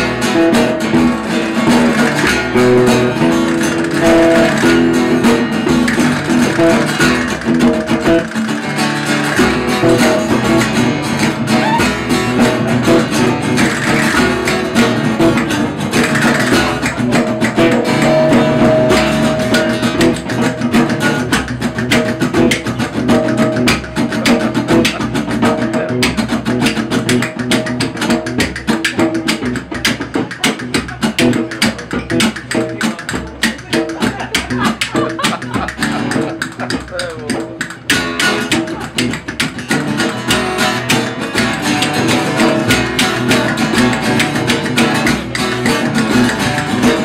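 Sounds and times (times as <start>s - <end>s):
bass line: 0.0s - 47.0s
blues rock band playing: 0.0s - 47.0s
fast rhythmic ticking: 0.0s - 47.0s
strummed acoustic guitar: 0.0s - 47.0s.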